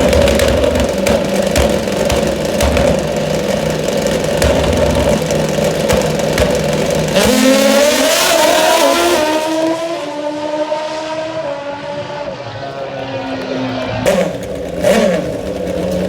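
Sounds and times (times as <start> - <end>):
drag motorcycle engine revving: 0.0 - 16.0.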